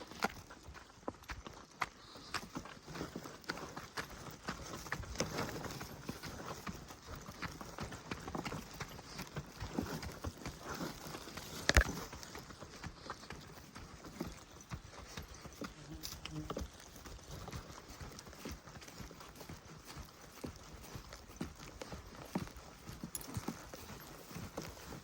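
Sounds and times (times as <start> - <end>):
footsteps on forest track: 0.0 - 25.0.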